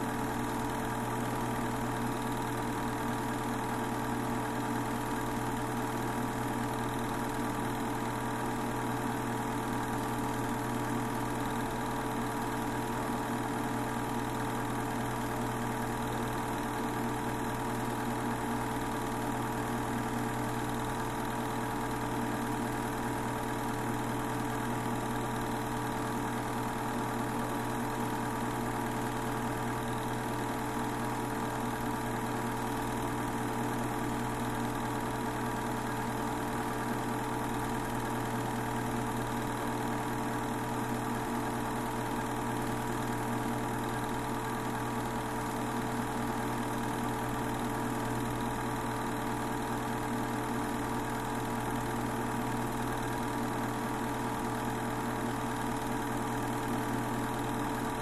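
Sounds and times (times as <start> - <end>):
movie projector whirring: 0.0 - 58.0.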